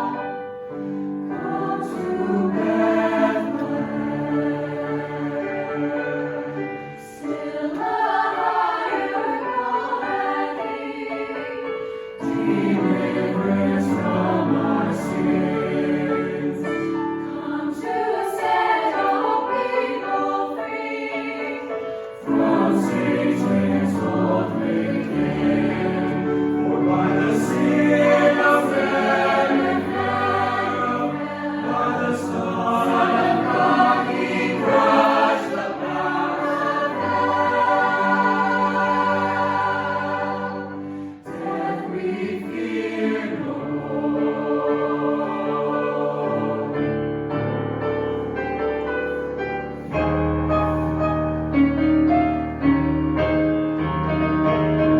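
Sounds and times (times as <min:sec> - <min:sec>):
choir singing a hymn: 0:00.0 - 0:51.4.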